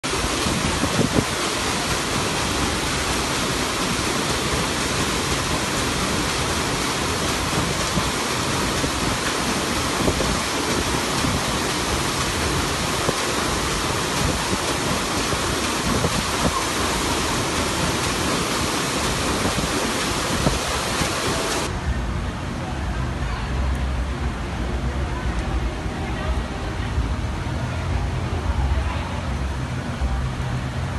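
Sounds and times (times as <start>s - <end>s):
paddle wheel churning water: 0.0s - 30.9s.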